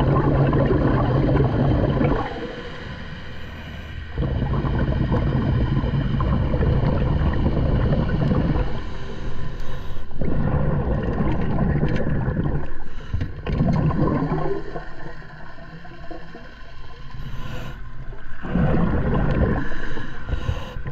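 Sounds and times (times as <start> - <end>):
bubbles gurgling underwater: 0.0 - 2.6, 4.1 - 8.9, 10.2 - 20.9.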